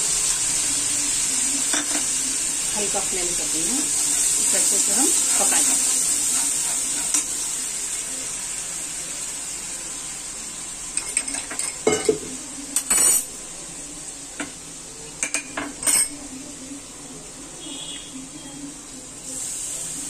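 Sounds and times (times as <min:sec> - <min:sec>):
paste sizzling in oil: 0:00.0 - 0:20.0.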